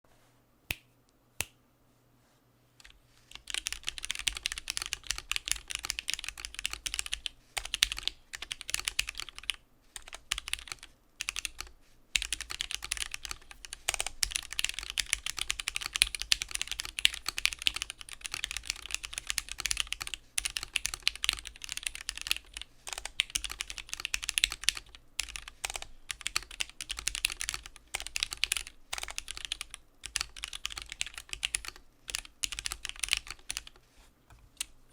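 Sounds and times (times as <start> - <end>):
mechanical keyboard typing: 2.8 - 34.8.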